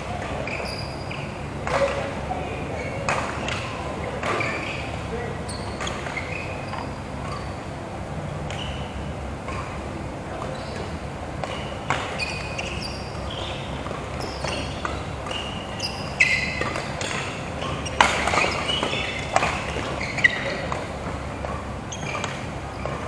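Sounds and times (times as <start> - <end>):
rackets hitting shuttlecock: 0.0 - 5.1, 5.7 - 7.8, 8.4 - 23.0
shoes squeaking on floor: 0.0 - 23.0
sports hall background noise: 0.0 - 23.0.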